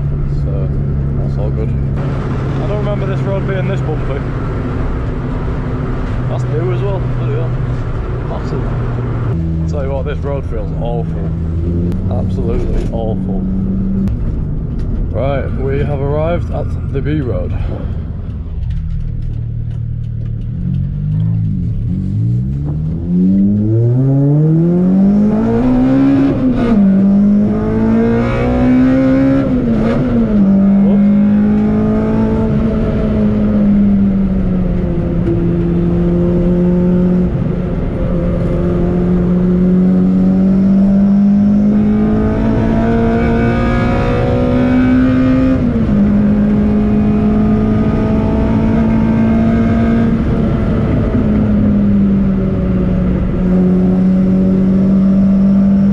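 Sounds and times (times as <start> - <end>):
car engine accelerating: 0.0 - 55.9
road noise: 0.0 - 55.9.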